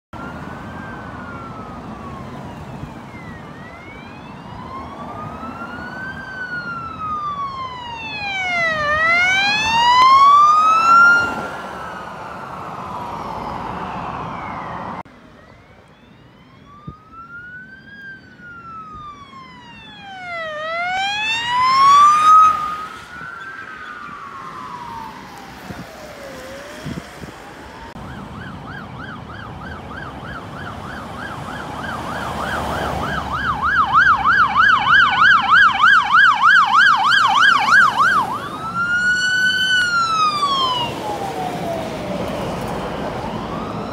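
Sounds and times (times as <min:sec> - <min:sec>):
fast warbling siren: 0:00.2 - 0:43.9
sirens wailing: 0:00.2 - 0:43.9
tyre noise of passing traffic: 0:00.2 - 0:43.9.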